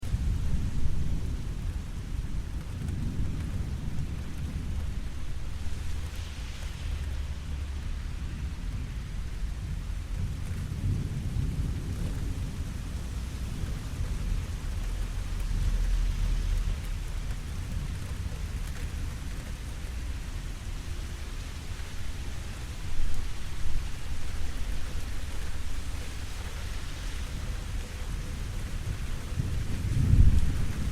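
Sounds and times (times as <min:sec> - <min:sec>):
steady rain: 0:00.0 - 0:30.9
thunder rumbling: 0:00.0 - 0:30.9.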